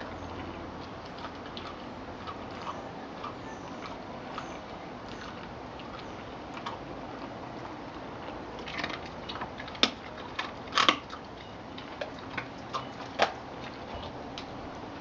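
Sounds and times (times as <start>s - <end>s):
dog chewing meat and bone: 0.0s - 15.0s.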